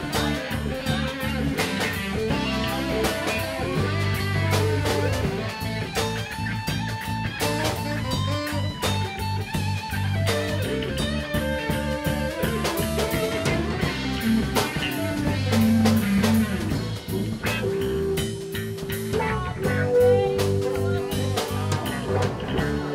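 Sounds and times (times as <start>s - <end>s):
drum kit: 0.0s - 22.9s
electric bass: 0.0s - 22.9s
guitar: 0.0s - 22.9s.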